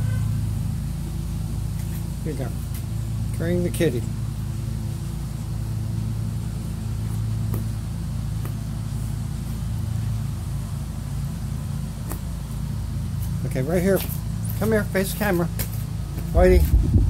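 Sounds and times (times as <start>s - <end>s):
low hum of motor: 0.0s - 17.0s.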